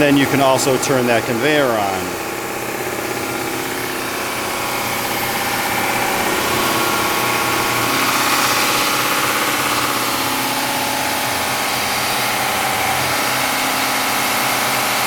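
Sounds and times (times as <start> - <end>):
belt sander humming and whining: 0.0 - 15.0.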